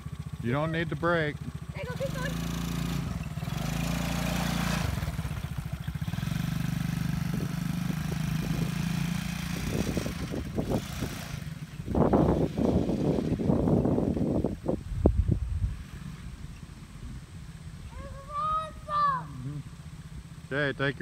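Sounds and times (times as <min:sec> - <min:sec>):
small quad engine running: 0:00.0 - 0:21.0.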